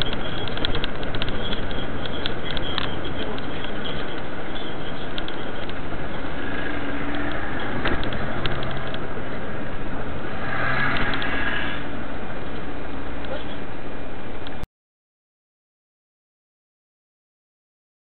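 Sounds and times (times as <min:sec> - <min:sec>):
car road and engine rumble: 0:00.0 - 0:14.7.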